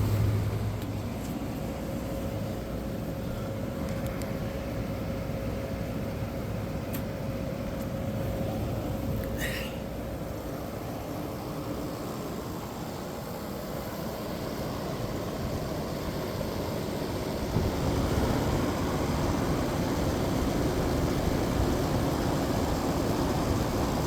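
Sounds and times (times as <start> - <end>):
window air conditioner running: 0.0 - 24.0.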